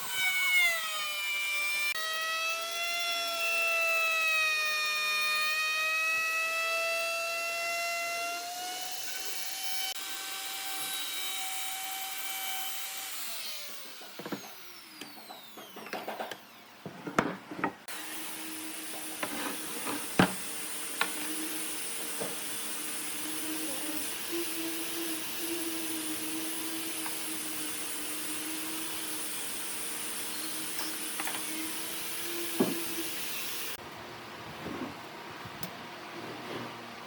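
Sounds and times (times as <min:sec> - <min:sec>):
lathe motor whine: 0:01.1 - 0:16.7, 0:17.9 - 0:33.8.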